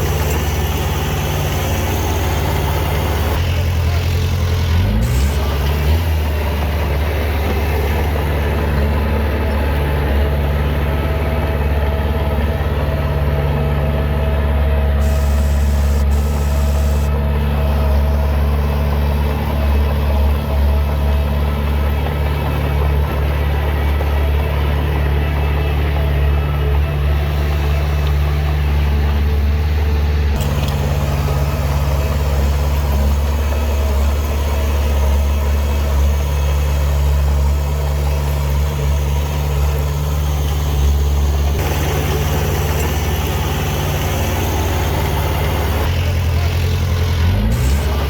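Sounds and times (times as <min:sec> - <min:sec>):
diesel engine running and revving: 0:00.0 - 0:48.0.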